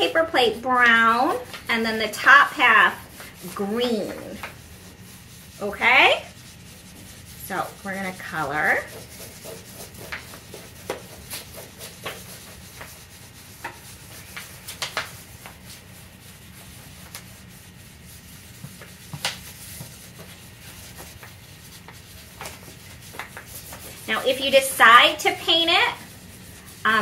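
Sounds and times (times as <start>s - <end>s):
crayons rubbing on paper plates: 0.0s - 27.0s.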